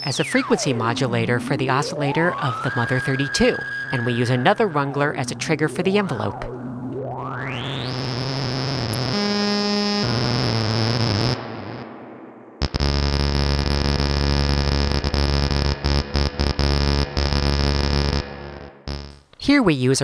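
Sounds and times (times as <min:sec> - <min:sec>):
harsh noisy synthesizer drone: 0:00.0 - 0:19.2
loud buzzy stuttering tone: 0:00.0 - 0:19.2.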